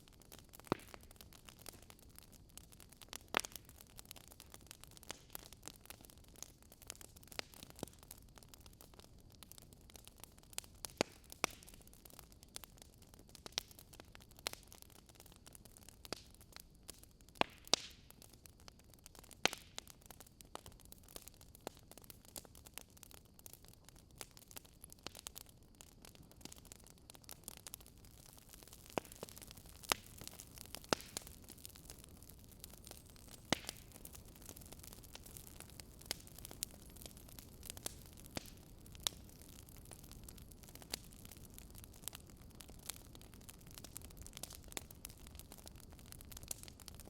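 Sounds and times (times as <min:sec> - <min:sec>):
fireplace fire crackling: 0:00.0 - 0:47.0
soft fire hiss: 0:00.0 - 0:47.0.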